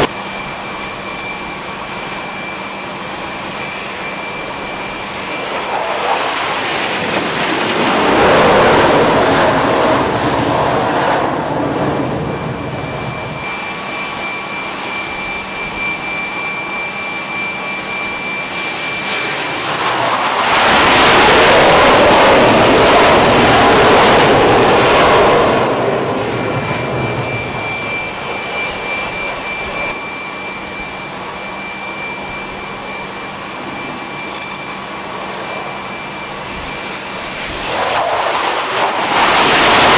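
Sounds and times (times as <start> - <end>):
jet exhaust rushing: 0.0 - 39.9
jet turbine whine: 0.0 - 39.9.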